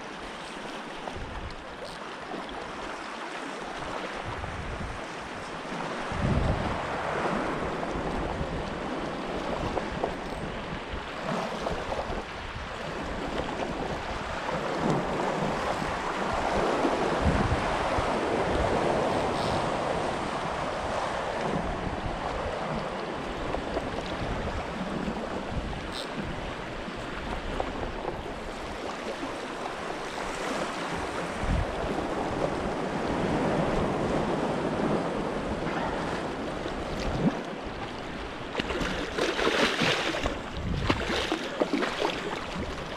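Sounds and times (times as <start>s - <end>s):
small waves lapping: 0.0s - 42.9s
wind buffeting microphone: 4.2s - 11.1s, 11.8s - 28.9s, 30.1s - 42.9s.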